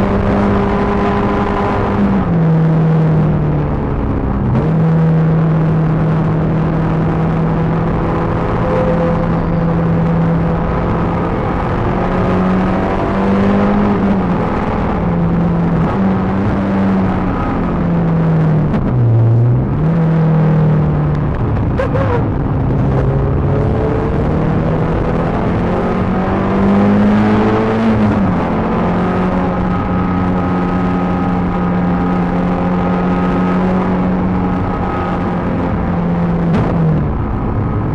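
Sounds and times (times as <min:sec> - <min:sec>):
car engine accelerating and shifting: 0:00.0 - 0:37.9.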